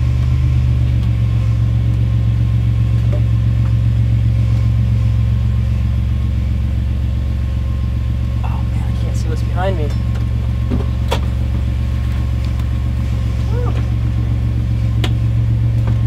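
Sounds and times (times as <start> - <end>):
van engine droning: 0.0 - 16.0.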